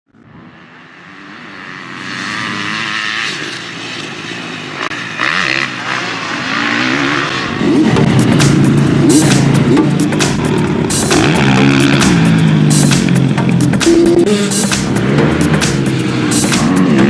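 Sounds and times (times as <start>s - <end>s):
motocross bike engine revving: 0.1s - 17.0s.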